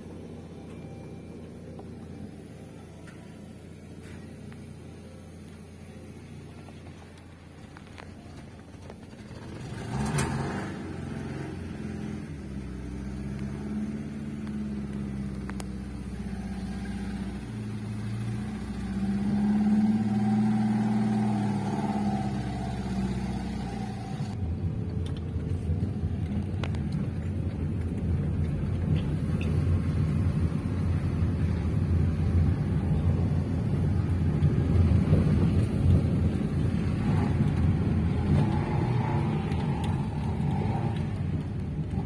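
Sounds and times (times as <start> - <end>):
car engine pulling away: 0.0 - 42.0
rough low rumble: 0.0 - 42.0.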